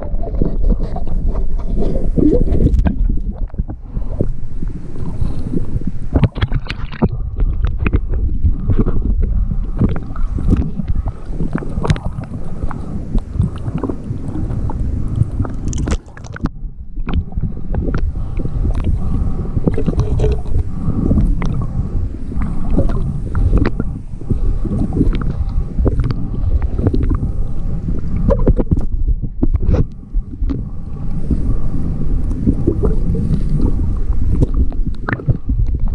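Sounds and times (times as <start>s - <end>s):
hand scraping a hull underwater: 0.0s - 35.9s
water rumbling and gurgling: 0.0s - 35.9s.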